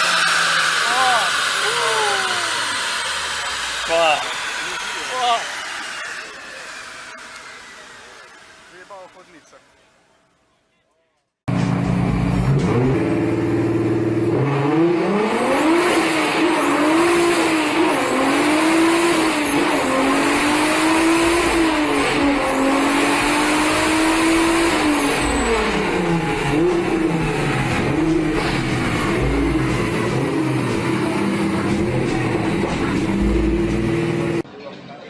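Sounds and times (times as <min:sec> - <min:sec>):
car engine revving: 0:00.0 - 0:09.8, 0:11.5 - 0:34.5.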